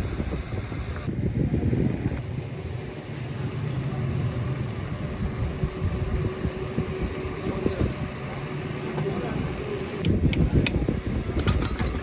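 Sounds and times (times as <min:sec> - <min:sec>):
motorcycle engine rumbling: 0:00.0 - 0:12.0
steady hum: 0:00.0 - 0:12.0.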